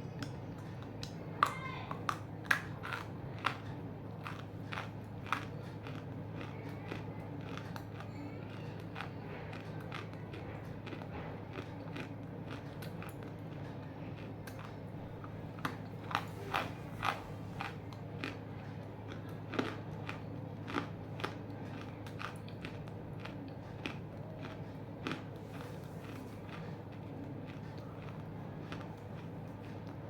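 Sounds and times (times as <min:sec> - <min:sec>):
steady low hum: 0:00.0 - 0:30.0
crisp crunches of chewing: 0:00.1 - 0:30.0.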